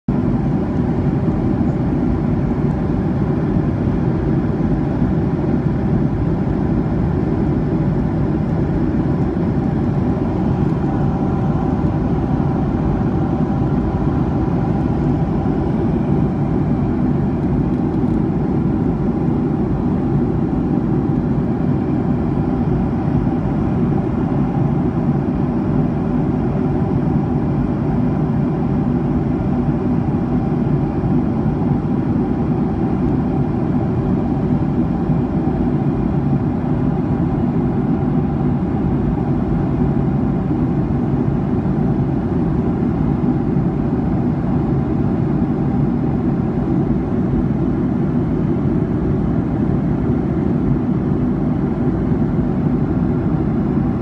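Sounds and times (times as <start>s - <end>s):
airliner cabin drone: 0.1s - 54.0s.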